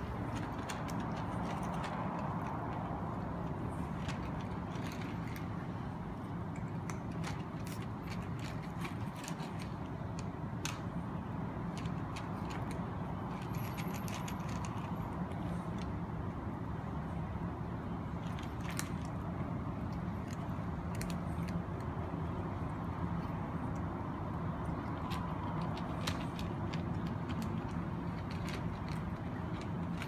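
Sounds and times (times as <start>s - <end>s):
cats crunching dry kibble: 0.0s - 17.0s, 18.0s - 30.0s.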